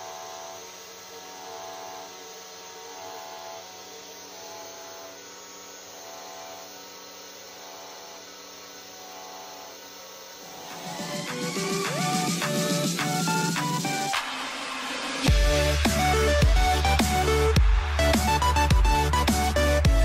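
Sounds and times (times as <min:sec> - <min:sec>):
milling machine motor hum: 0:00.0 - 0:20.0.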